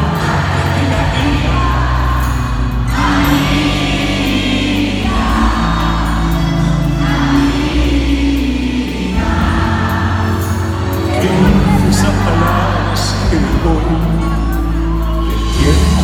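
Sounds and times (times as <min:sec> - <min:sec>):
live pop band playing: 0:00.0 - 0:16.0
voices singing: 0:00.0 - 0:16.0.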